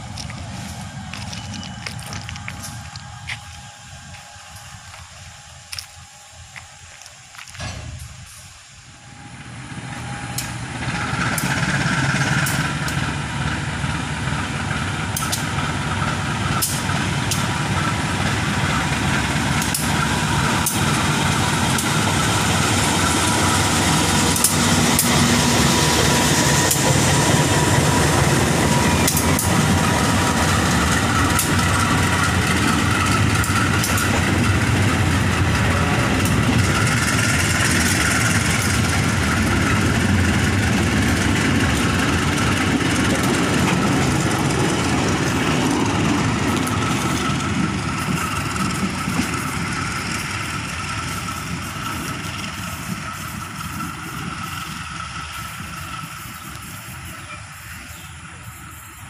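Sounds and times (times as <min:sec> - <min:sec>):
diesel locomotive engine running: 0:00.0 - 0:59.0
train wheels rumbling on rails: 0:00.0 - 0:59.0.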